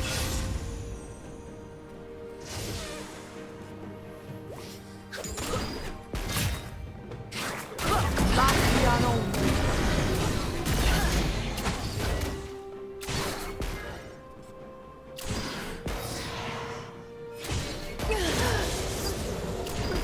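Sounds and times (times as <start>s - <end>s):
music with long held notes: 0.0s - 20.0s.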